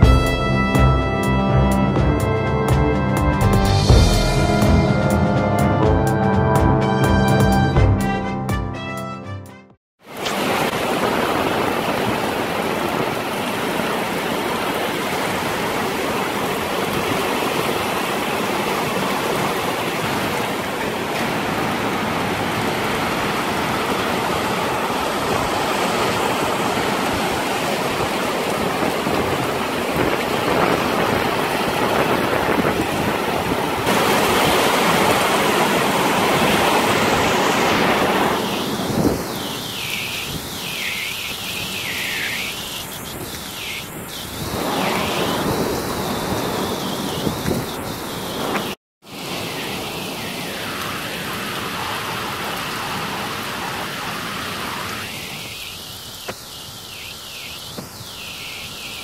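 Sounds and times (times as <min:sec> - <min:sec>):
heavy rain pouring: 0:10.0 - 0:59.0.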